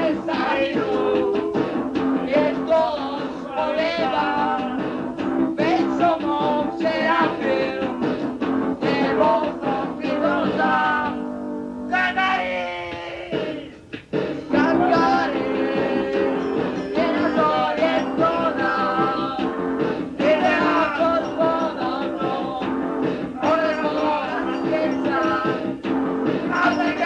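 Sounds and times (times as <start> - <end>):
punk rock band playing: 0.0 - 27.0.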